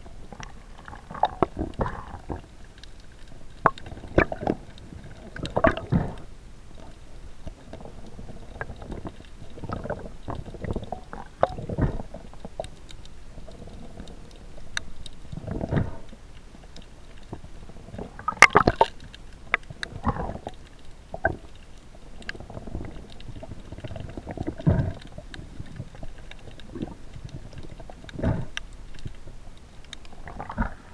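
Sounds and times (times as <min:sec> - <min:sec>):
muffled water sloshing: 0:00.0 - 0:30.9.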